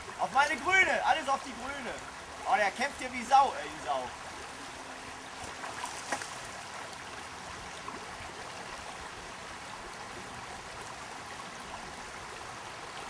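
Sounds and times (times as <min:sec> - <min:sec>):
water splashes: 0:00.0 - 0:13.0.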